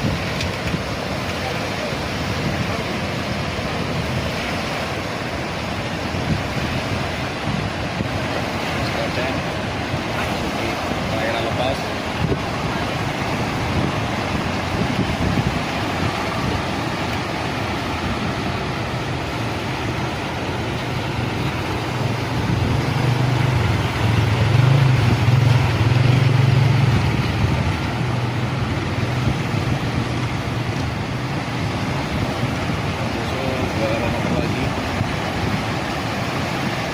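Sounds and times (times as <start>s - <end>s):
boat engine humming: 0.0s - 36.9s
strong wind rushing: 0.0s - 36.9s.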